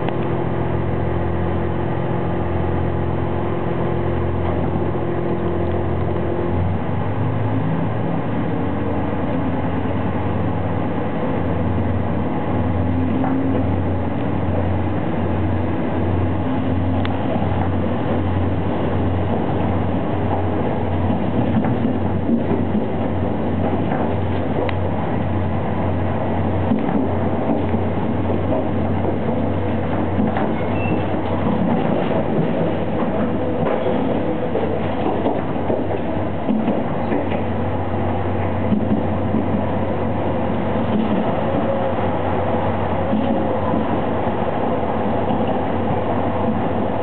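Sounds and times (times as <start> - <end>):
train engine drone: 0.0 - 47.0.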